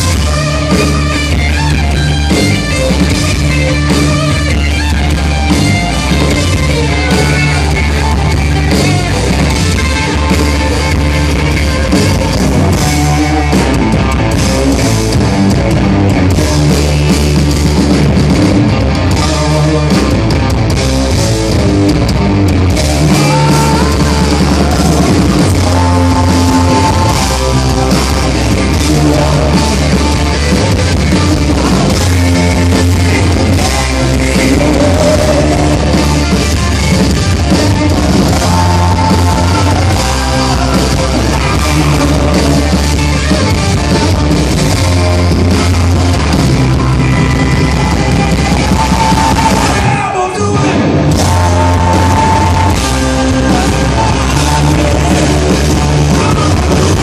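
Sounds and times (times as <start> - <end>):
hard rock band playing live: 0.0 - 57.0.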